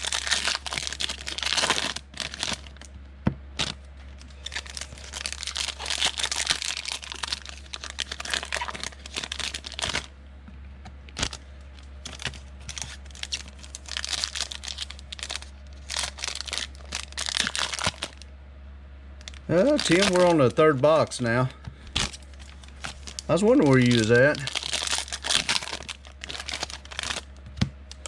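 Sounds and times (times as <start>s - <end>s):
foil wrappers crinkling and tearing: 0.0s - 2.9s, 3.5s - 10.1s, 11.1s - 18.2s, 19.2s - 28.0s
low steady hum: 0.0s - 28.0s.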